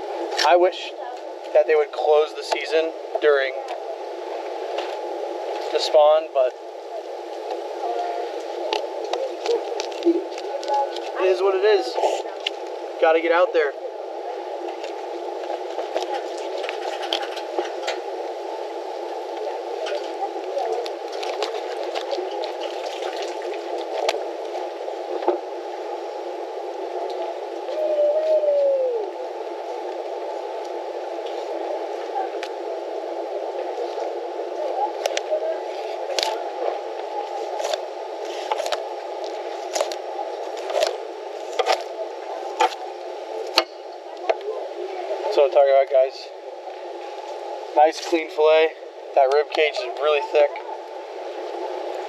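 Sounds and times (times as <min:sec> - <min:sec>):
steady hiss: 0:00.0 - 0:52.0.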